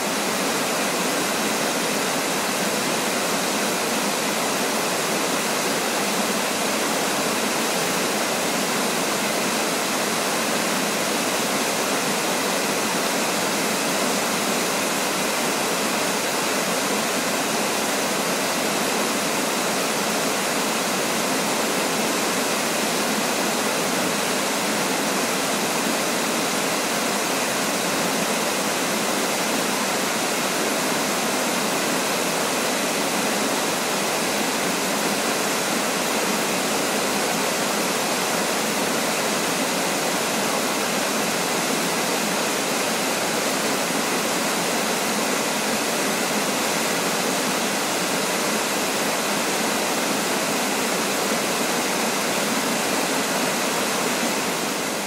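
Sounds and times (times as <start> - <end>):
waterfall: 0.0 - 55.0.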